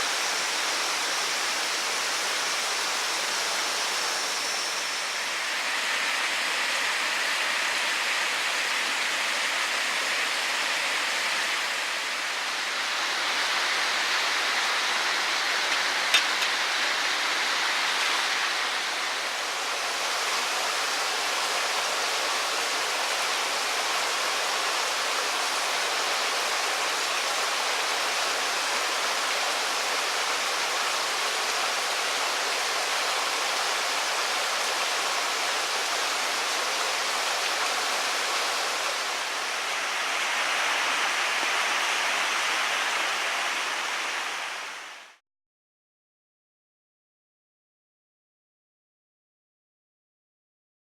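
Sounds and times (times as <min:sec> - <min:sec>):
waterfall and stream rushing: 0:00.0 - 0:45.2.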